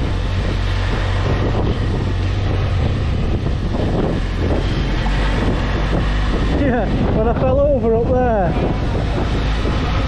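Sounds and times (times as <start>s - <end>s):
motorcycle engine drone: 0.0s - 10.0s
wind buffeting microphone: 0.0s - 10.0s.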